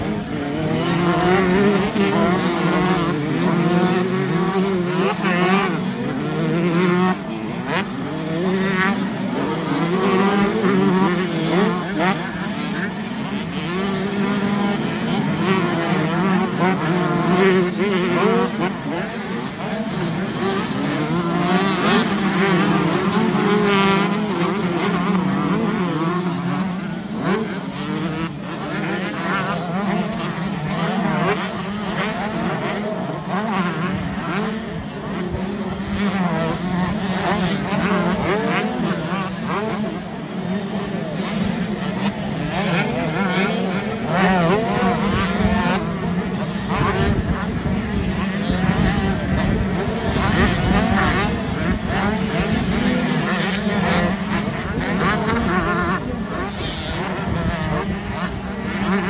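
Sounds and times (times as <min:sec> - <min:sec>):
drone of engines: 0:00.0 - 0:59.0
motocross bikes revving past: 0:00.0 - 0:59.0.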